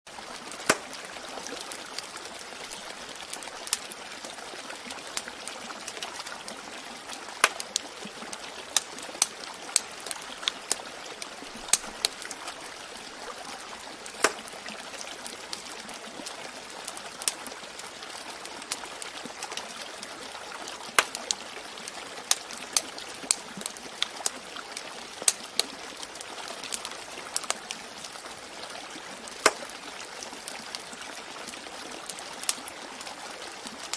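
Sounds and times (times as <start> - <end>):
trickling water: 0.1 - 33.9
wood fire crackling: 0.2 - 33.9.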